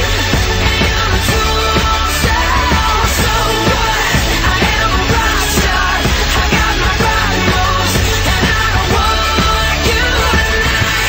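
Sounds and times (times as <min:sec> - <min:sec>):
person singing: 0:00.0 - 0:11.0
pop-rock song: 0:00.0 - 0:11.0
steady drum beat: 0:00.0 - 0:11.0.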